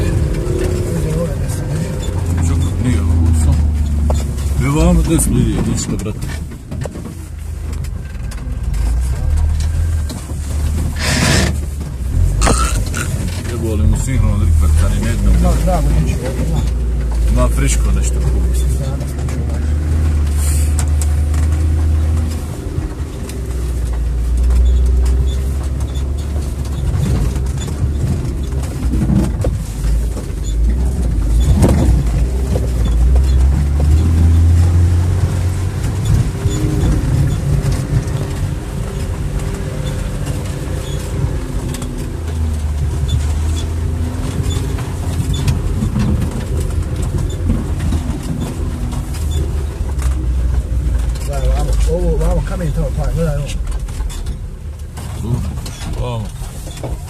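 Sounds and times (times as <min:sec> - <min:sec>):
car engine rumbling under load: 0:00.0 - 0:57.0.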